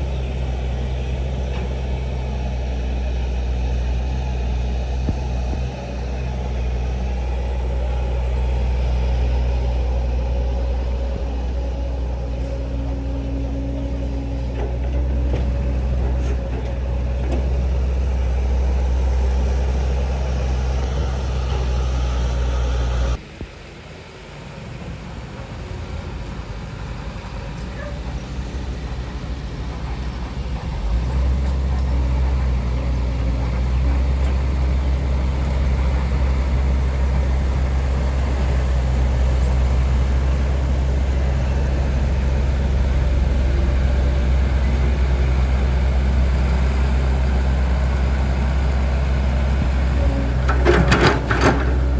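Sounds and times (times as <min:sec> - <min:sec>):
diesel machinery engine humming: 0:00.0 - 0:51.9.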